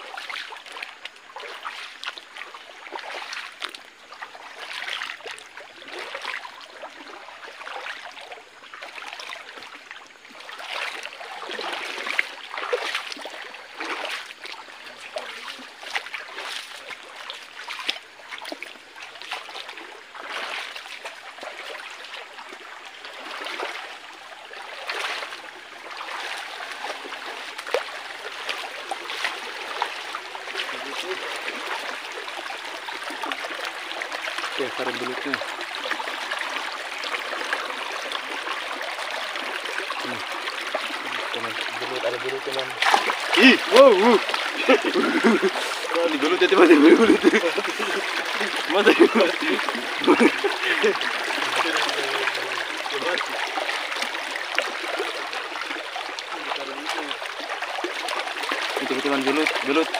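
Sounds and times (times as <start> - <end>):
feet splashing through stream: 0.0 - 59.9
water trickling: 0.0 - 59.9.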